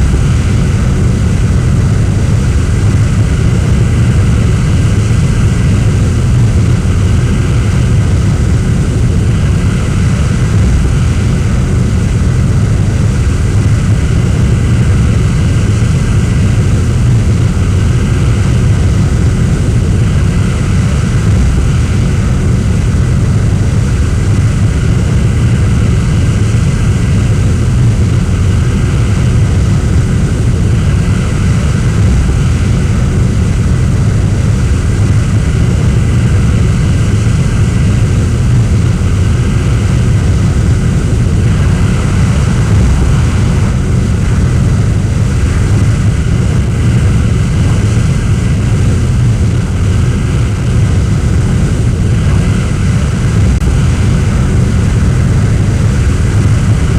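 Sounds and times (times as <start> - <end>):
jet engine rumble: 0.0 - 56.9.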